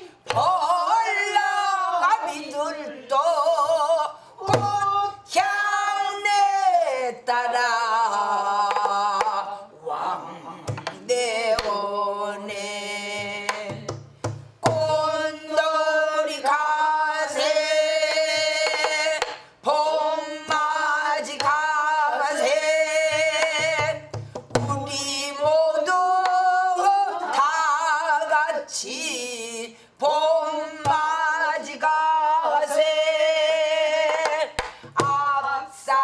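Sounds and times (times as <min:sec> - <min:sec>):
woman singing with vibrato: 0:00.0 - 0:36.0.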